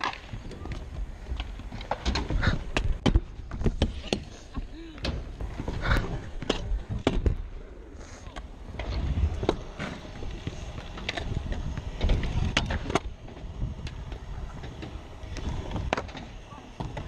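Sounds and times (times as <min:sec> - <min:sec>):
scooter wheels rolling on concrete: 0:00.0 - 0:17.0.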